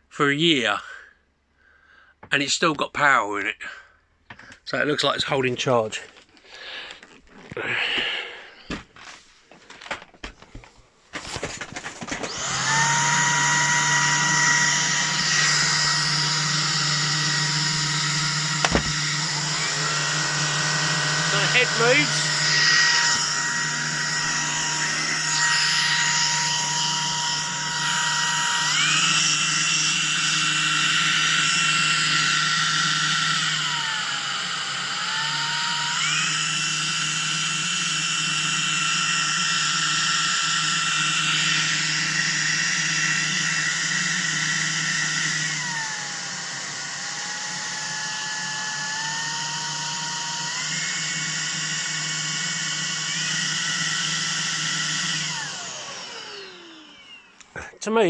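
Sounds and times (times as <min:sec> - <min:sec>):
vacuum cleaner motor whine: 0:11.2 - 0:57.7.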